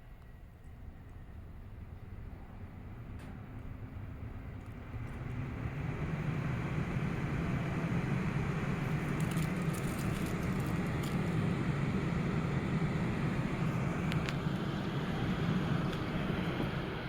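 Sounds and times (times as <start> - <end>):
ventilation fan whirring: 0.0 - 17.0.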